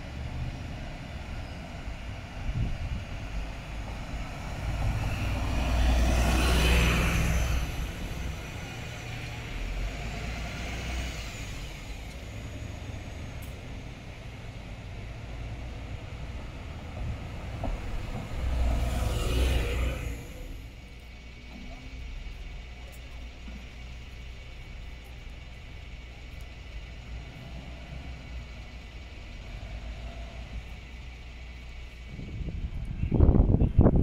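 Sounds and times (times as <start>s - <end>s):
bus diesel engines passing: 0.0s - 34.0s.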